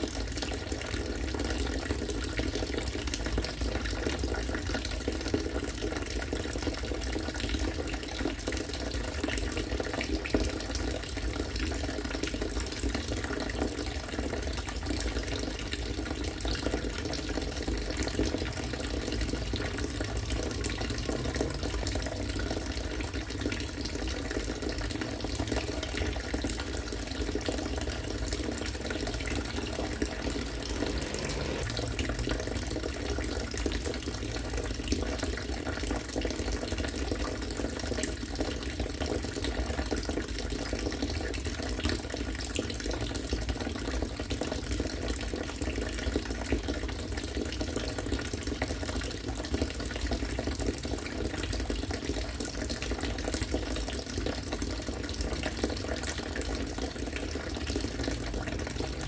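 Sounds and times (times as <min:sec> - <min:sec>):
rainwater pouring into water: 0:00.0 - 0:59.0.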